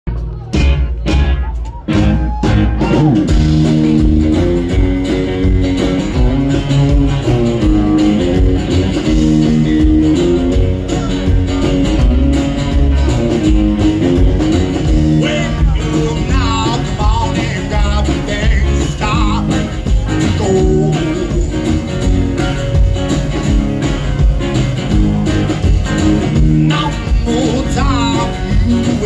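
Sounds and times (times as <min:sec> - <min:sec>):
rockabilly band playing: 0:00.1 - 0:29.0.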